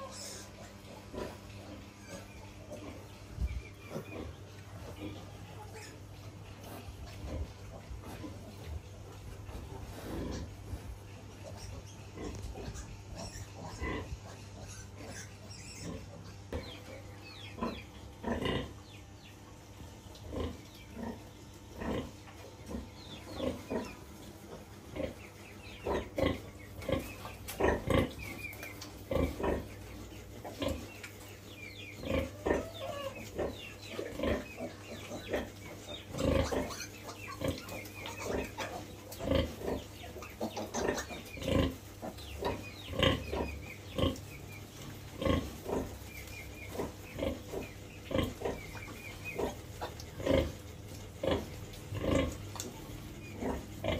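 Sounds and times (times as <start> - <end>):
piglets grunting and squealing: 0.0 - 53.9.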